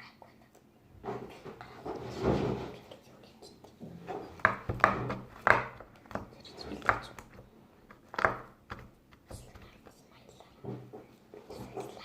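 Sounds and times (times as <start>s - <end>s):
quiet rubbing: 1.0s - 8.4s, 9.1s - 12.0s.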